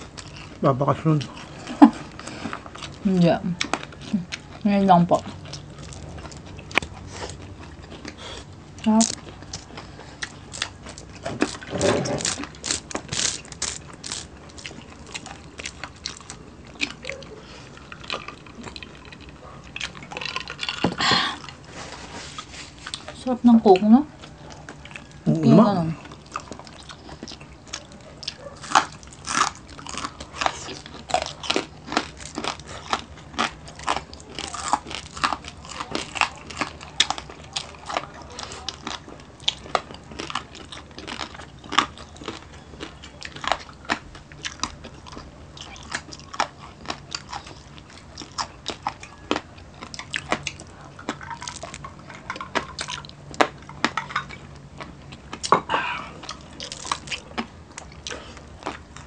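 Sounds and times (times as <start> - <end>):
chewing and crunching food: 0.0 - 59.0
faint low hum: 0.0 - 59.0.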